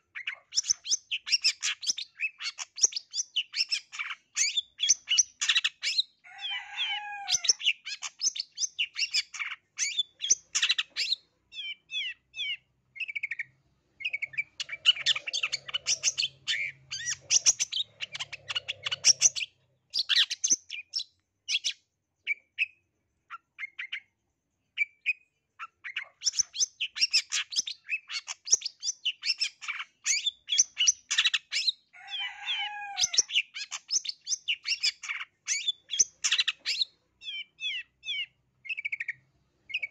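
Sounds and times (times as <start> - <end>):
bird singing rapid chattering song: 0.0 - 6.2, 7.4 - 31.9, 33.0 - 39.9.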